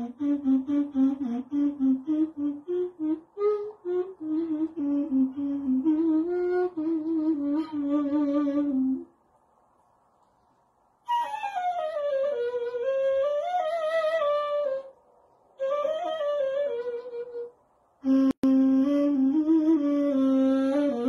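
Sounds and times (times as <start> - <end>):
reed flute melody: 0.0 - 9.1, 11.0 - 15.0, 15.6 - 21.0.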